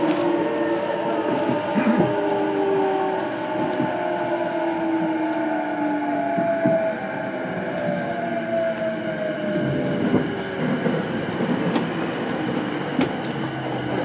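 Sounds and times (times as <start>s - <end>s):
train wheel and rail noise: 0.0s - 14.0s.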